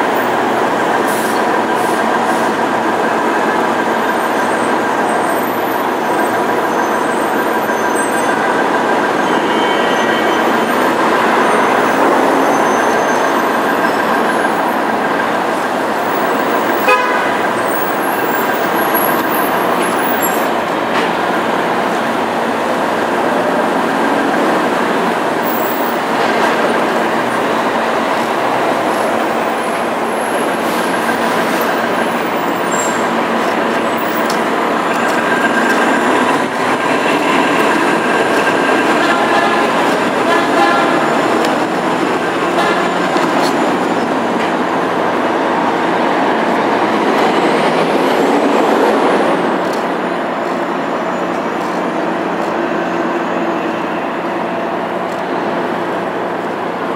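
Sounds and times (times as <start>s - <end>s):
buses and cars passing: 0.0s - 56.9s
city street traffic: 0.0s - 56.9s.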